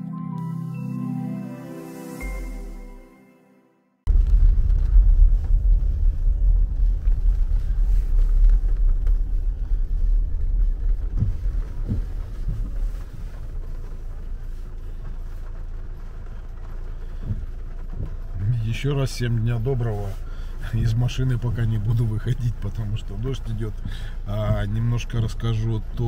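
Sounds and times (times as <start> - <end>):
low rumble inside car: 4.1 - 26.0.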